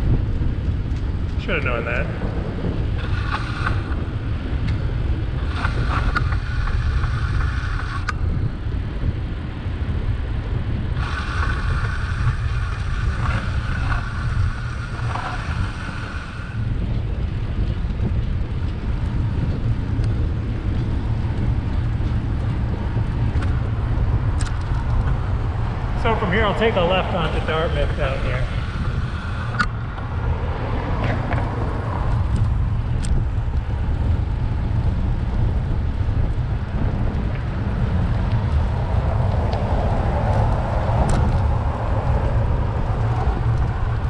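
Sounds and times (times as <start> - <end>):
passing street traffic: 0.0 - 44.0
wind buffeting microphone: 0.0 - 44.0.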